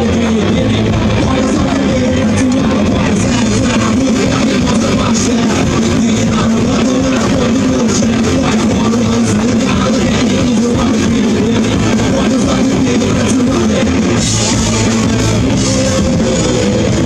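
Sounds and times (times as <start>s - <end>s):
electric guitar: 0.0s - 17.0s
live rock band playing loudly: 0.0s - 17.0s.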